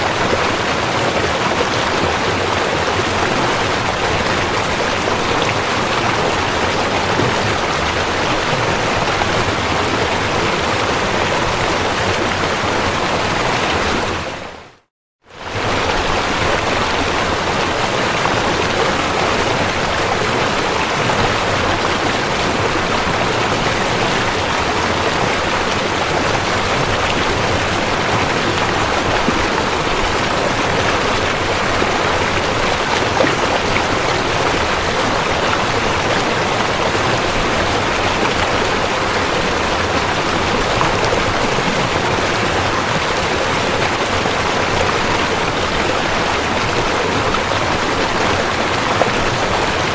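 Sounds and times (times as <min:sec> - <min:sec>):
rushing river water: 0:00.0 - 0:49.9.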